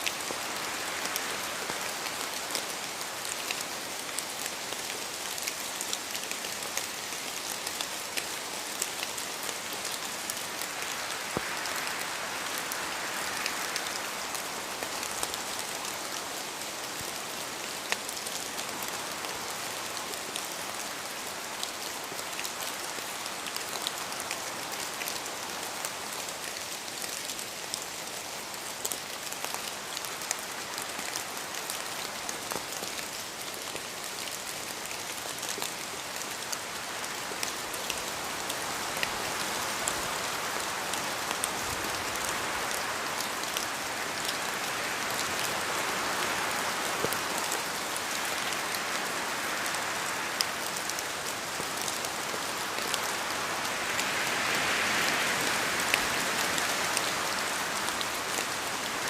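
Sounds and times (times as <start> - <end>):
steady rain with ticking drops: 0.0 - 59.0.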